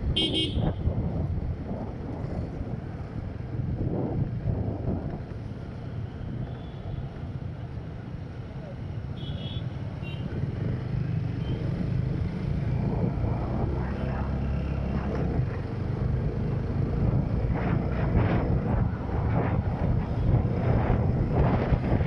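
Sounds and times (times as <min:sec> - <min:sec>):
wind rushing over microphone: 0:00.0 - 0:09.1, 0:09.8 - 0:22.0
road rumble: 0:00.0 - 0:22.0.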